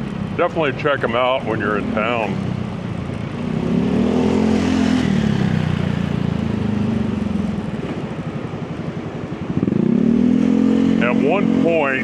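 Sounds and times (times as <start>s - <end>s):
motorbike engine: 0.0s - 12.0s
road and wind noise: 0.0s - 12.0s.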